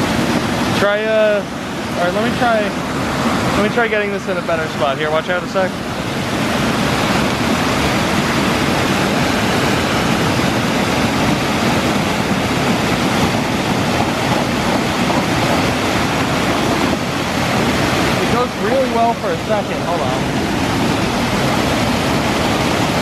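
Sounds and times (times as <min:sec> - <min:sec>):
water rushing over a weir: 0:00.0 - 0:23.0.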